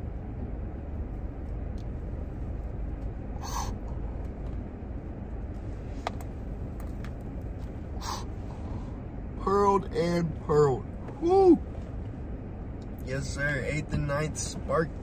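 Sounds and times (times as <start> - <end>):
low rumble in car cabin: 0.0 - 15.0.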